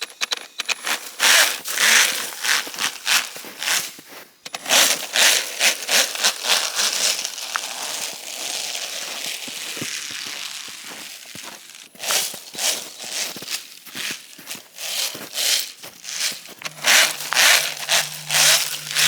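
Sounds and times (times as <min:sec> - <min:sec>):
footsteps crunching in snow: 0:00.7 - 0:19.0.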